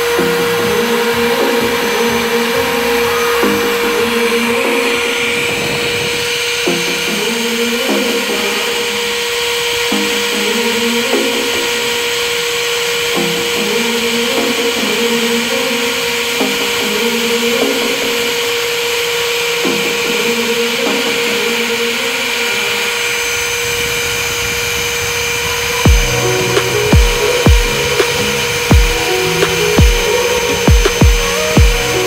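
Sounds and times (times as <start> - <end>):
background music: 0.0 - 23.9, 25.6 - 32.0
grinding spindle whining: 0.0 - 32.0.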